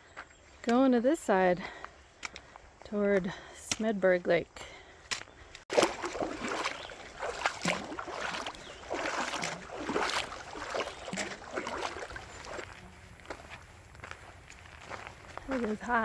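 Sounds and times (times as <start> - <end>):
footsteps on trail: 0.0 - 16.0.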